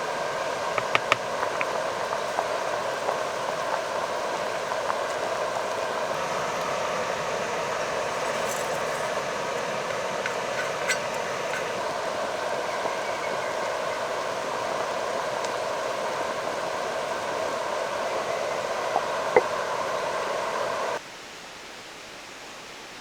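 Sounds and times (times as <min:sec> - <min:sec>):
stream water rushing: 0:00.0 - 0:21.0
faint clicks: 0:00.5 - 0:19.9.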